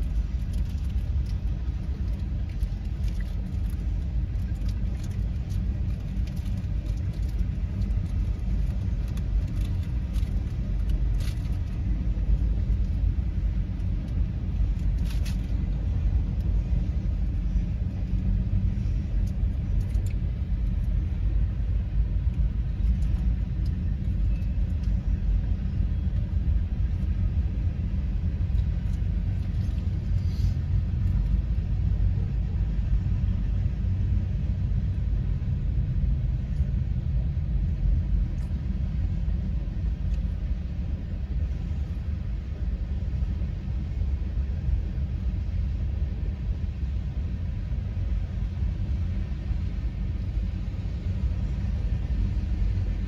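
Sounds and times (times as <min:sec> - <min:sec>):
freight train cars rumbling: 0:00.0 - 0:53.0.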